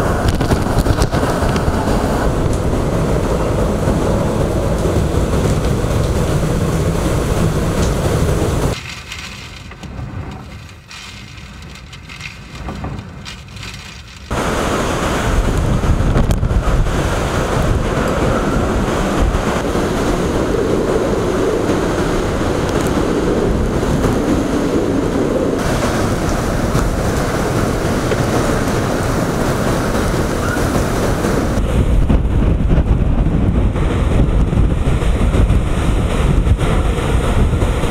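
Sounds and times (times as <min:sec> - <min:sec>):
wind buffeting microphone: 0:00.0 - 0:08.8, 0:09.5 - 0:37.9
storm wind and surf rushing: 0:00.0 - 0:37.9.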